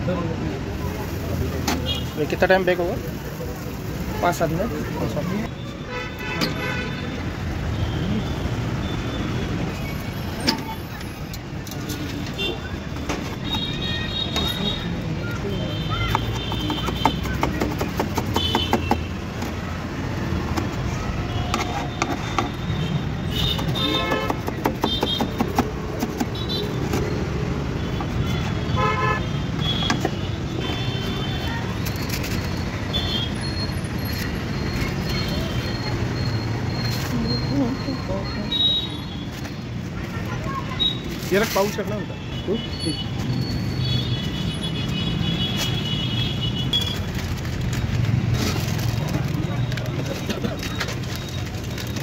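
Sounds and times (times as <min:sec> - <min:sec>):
street traffic rumble: 0:00.0 - 0:52.0.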